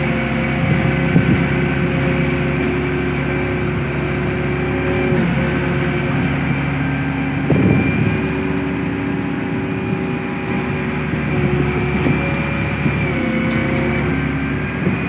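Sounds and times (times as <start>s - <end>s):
crane machinery droning: 0.0s - 15.0s.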